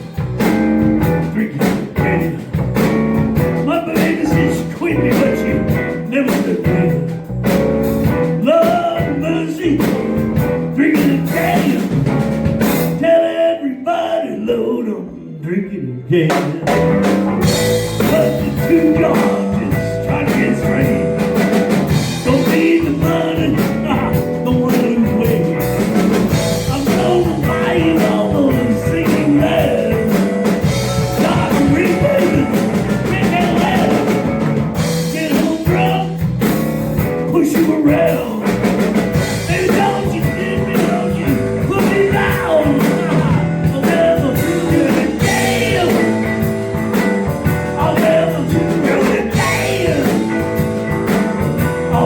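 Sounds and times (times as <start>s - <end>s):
drum kit: 0.0s - 13.2s, 16.3s - 52.0s
blues band playing: 0.0s - 52.0s
guitar: 0.0s - 52.0s.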